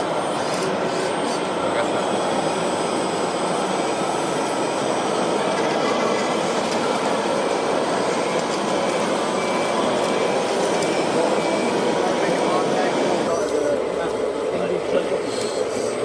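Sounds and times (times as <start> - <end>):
whirring of small motors: 0.0 - 16.0.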